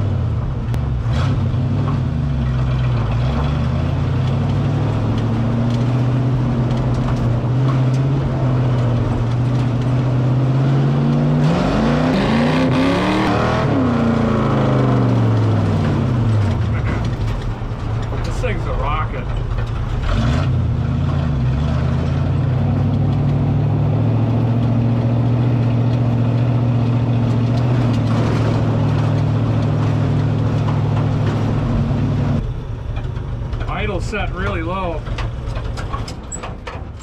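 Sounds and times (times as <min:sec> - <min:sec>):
race car engine revving: 0:00.7 - 0:32.4.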